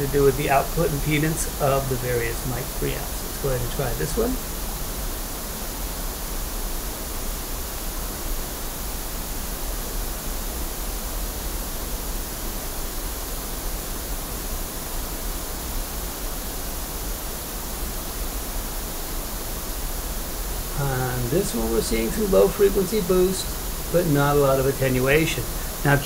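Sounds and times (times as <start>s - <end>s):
pink noise hiss: 0.0s - 26.0s.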